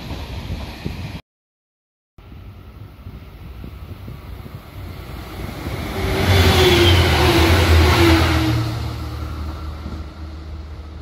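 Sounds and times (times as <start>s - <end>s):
train passing at speed: 0.0s - 1.2s, 2.2s - 11.0s.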